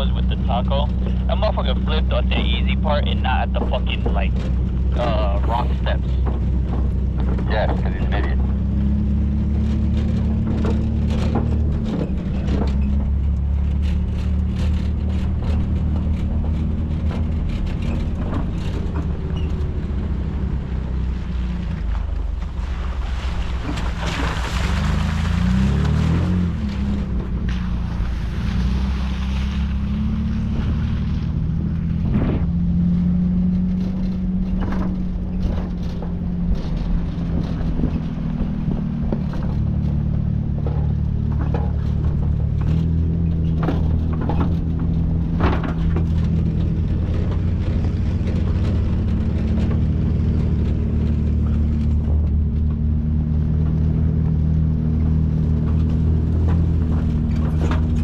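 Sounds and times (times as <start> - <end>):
knocks and rattles over bumps: 0.0 - 58.0
truck engine running: 0.0 - 58.0.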